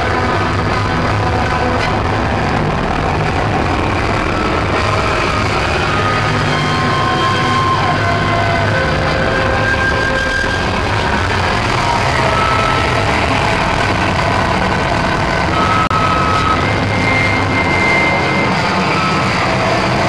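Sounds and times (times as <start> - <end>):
distorted punk band guitars: 0.0 - 20.0.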